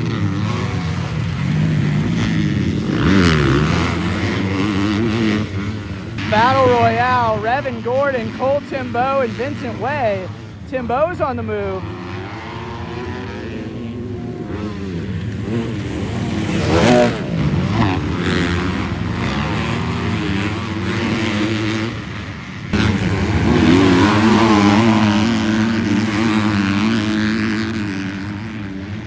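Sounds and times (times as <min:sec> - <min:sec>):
bike engine at high revs: 0:00.0 - 0:29.0
motocross bikes revving: 0:00.0 - 0:29.0.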